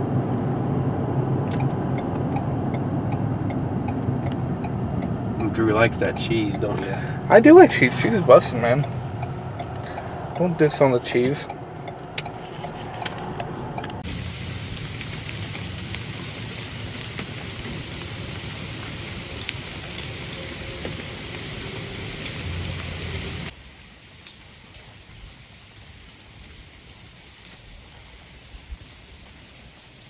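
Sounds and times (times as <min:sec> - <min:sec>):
rain falling: 0:00.0 - 0:30.0
sharp raindrop ticks: 0:01.4 - 0:28.2.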